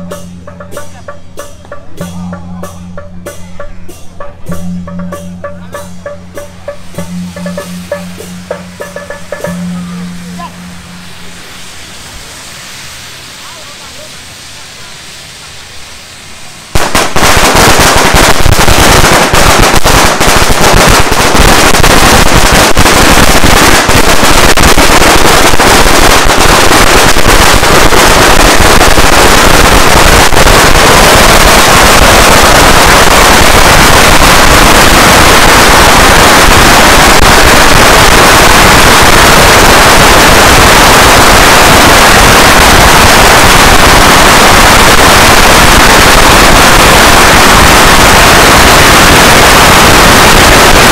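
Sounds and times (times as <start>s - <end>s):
firecracker string crackling: 0.0s - 50.9s.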